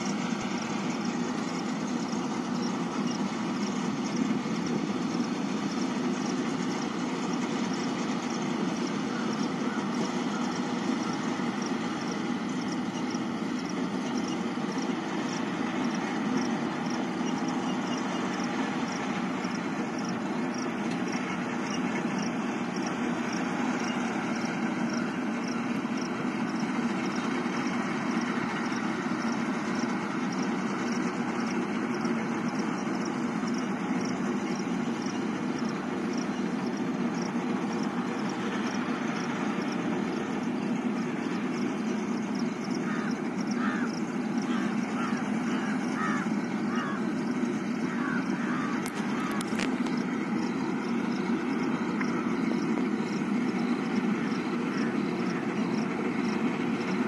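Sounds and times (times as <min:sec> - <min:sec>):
combine harvester drone: 0:00.0 - 0:57.0.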